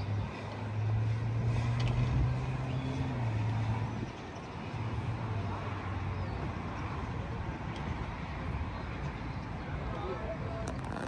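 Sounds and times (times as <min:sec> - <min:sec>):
distant road noise: 0:00.0 - 0:11.0
low engine hum: 0:00.0 - 0:11.0.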